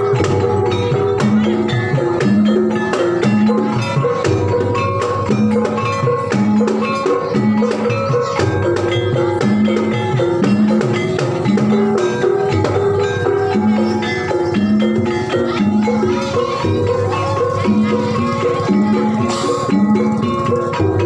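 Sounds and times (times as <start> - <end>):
drum strokes: 0.0 - 21.0
gamelan tuned percussion: 0.0 - 21.0.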